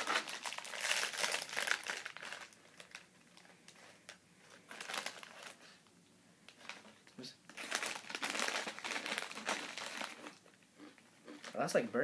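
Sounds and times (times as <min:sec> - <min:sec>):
plastic snack bag crinkling: 0:00.0 - 0:05.8, 0:06.5 - 0:11.7.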